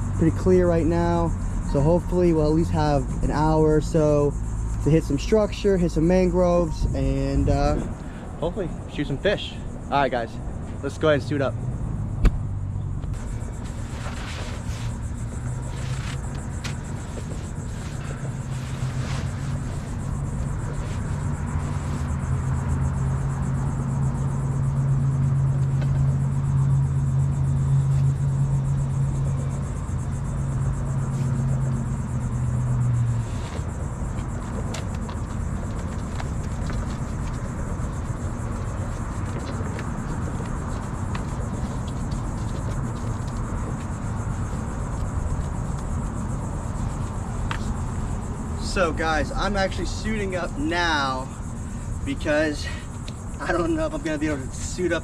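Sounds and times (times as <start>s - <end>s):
outdoor background noise: 0.0s - 55.0s
vehicle engine humming: 0.0s - 55.0s.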